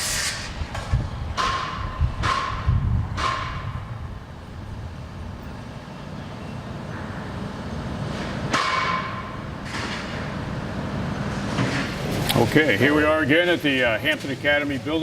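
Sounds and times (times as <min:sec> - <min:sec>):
low rumble of machinery: 0:00.0 - 0:14.9.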